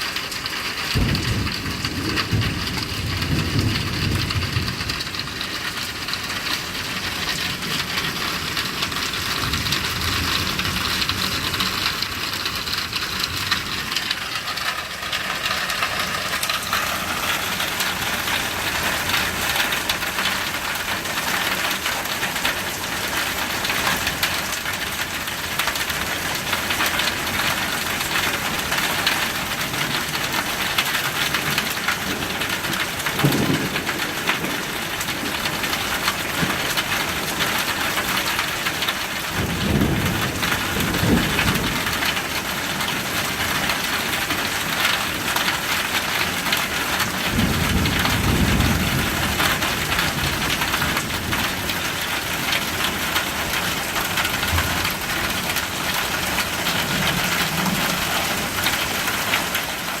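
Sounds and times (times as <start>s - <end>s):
steady rain falling: 0.0s - 60.0s
thunder rumbling: 0.9s - 20.9s, 25.5s - 44.9s, 46.3s - 59.2s.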